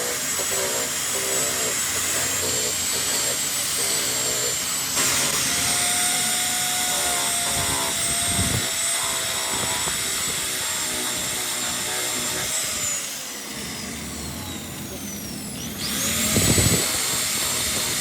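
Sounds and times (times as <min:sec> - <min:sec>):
power tool whining: 0:00.0 - 0:18.0.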